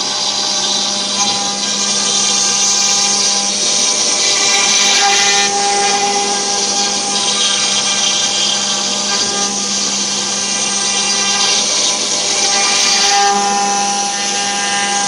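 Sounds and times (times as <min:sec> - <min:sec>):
router spindle whine: 0:00.0 - 0:15.0
wood being cut: 0:00.0 - 0:15.0.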